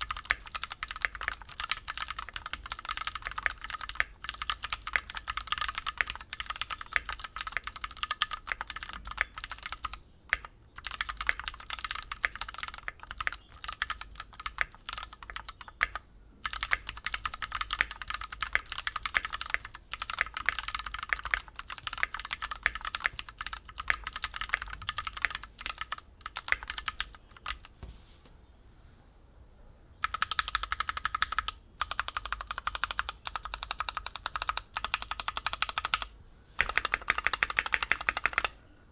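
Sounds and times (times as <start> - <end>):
mechanical keyboard typing: 0.0 - 27.7, 30.0 - 38.5.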